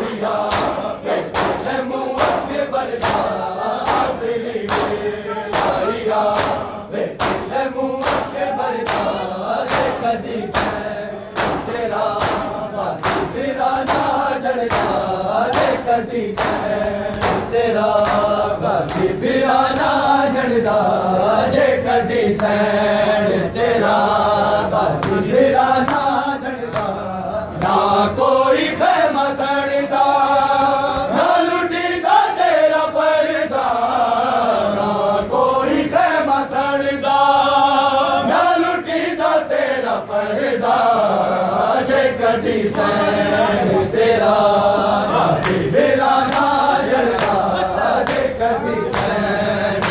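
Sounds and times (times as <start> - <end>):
men chanting together: 0.0 - 49.9
rhythmic chest-beating slaps: 0.0 - 49.9.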